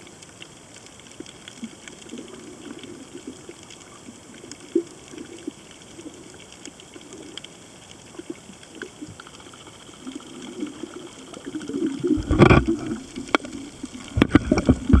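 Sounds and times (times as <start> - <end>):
faint underwater hiss: 0.0 - 15.0
small underwater clicks: 0.0 - 15.0.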